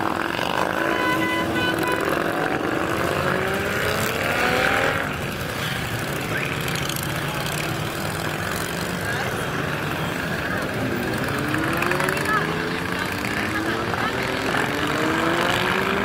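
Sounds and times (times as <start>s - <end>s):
motorcycles riding past: 0.0s - 16.0s.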